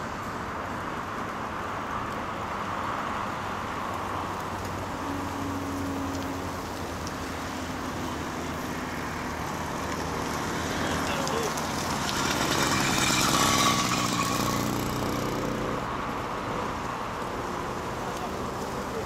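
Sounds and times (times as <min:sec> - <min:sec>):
bicycles rolling past: 0:00.0 - 0:19.0
busy road traffic: 0:00.0 - 0:19.0.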